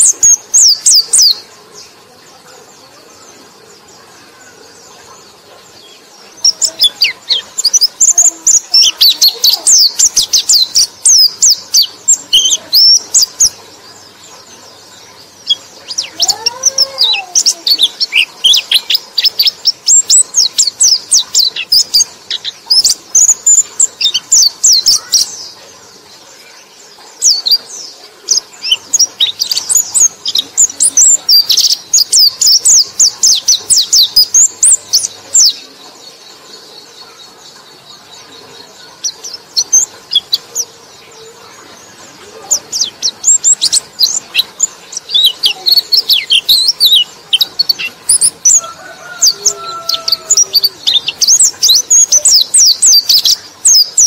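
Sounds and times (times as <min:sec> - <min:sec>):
bird twittering: 0:00.0 - 0:02.0, 0:02.7 - 0:54.0.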